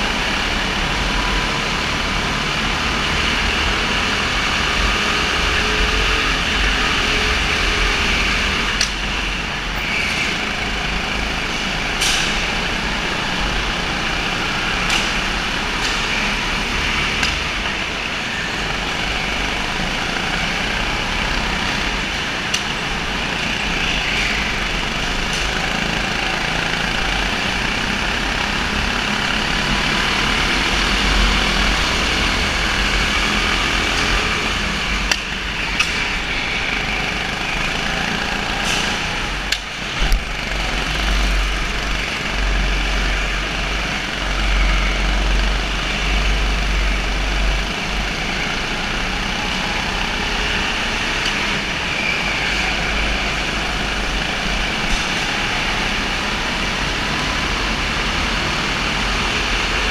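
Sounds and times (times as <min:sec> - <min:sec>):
go-kart engines racing: 0:00.0 - 0:59.9.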